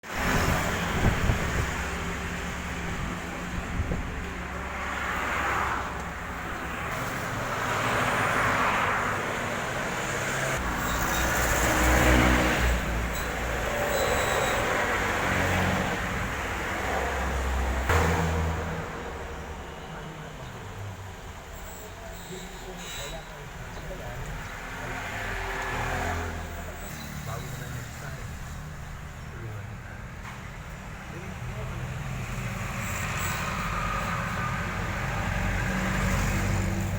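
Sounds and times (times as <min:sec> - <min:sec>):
vehicles passing by: 0:00.0 - 0:36.9.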